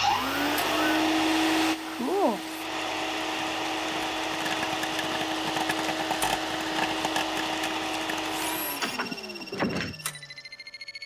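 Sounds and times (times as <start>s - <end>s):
vacuum cleaner running: 0.0s - 10.2s.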